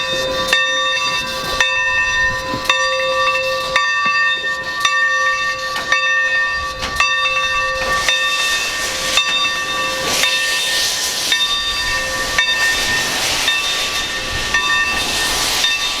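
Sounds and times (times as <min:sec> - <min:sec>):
locomotive bell ringing: 0:00.0 - 0:16.0
steam hissing: 0:00.0 - 0:16.0.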